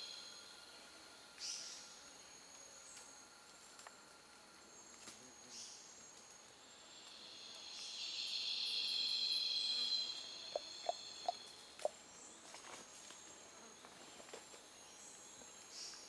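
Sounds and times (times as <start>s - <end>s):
insects buzzing trill: 0.0s - 16.0s.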